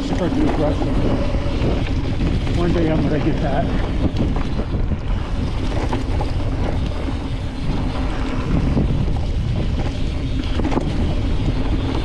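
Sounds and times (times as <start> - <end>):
bike rattling over rough ground: 0.0 - 12.0
wind buffeting microphone: 0.0 - 12.0.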